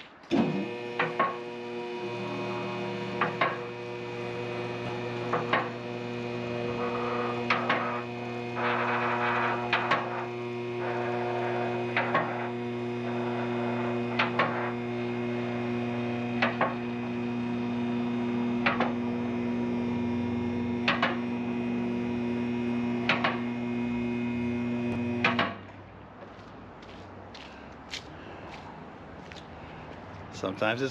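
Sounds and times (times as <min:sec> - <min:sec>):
electric motor humming: 0:00.3 - 0:25.4.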